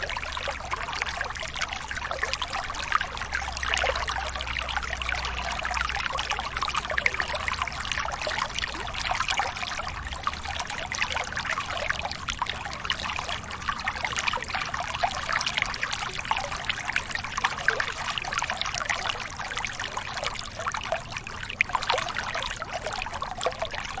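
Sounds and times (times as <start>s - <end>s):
small waterfall splashing: 0.0s - 24.0s.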